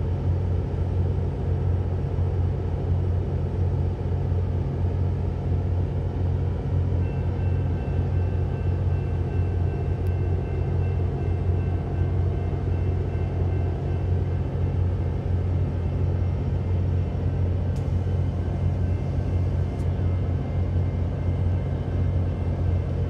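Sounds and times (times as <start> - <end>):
diesel locomotive idling: 0.0 - 23.0.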